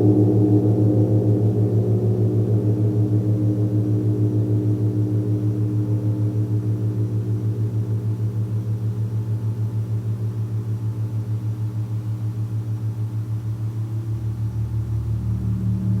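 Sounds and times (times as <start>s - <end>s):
deep rumble: 0.0s - 16.0s
large gong droning: 0.0s - 16.0s.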